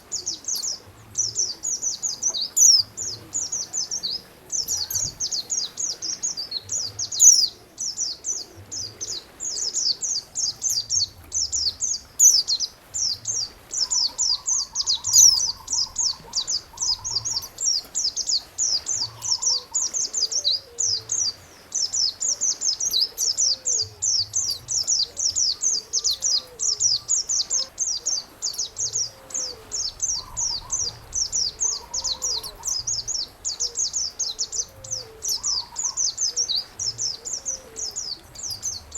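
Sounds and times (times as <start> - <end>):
songbird chirping: 0.0 - 38.9
other birds trilling: 6.8 - 38.9.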